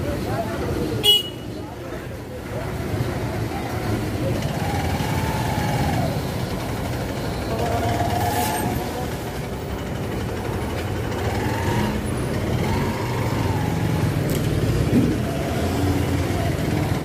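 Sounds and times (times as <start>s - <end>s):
road and traffic noise: 0.0s - 17.0s
vehicle engine running: 2.2s - 17.0s.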